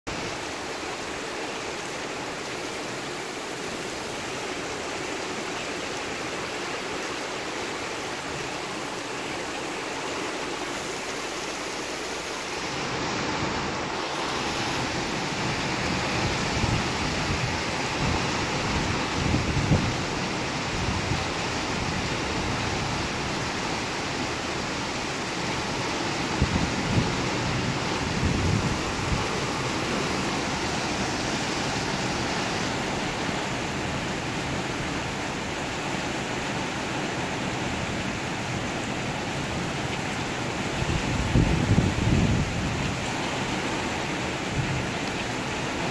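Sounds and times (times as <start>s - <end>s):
torrential rain: 0.1s - 45.9s.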